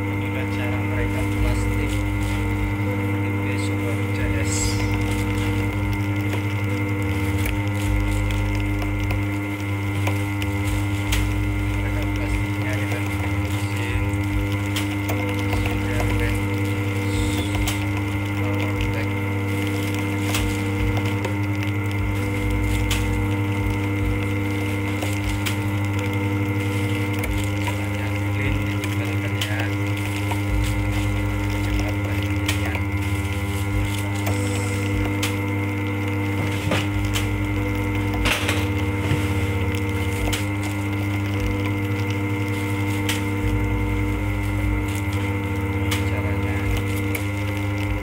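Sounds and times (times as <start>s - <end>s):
band sealer motor hum: 0.0s - 48.0s.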